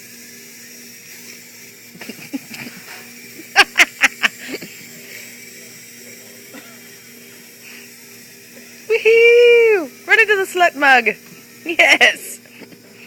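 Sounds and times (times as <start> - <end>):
clockwork toy motors whirring: 0.0 - 13.0.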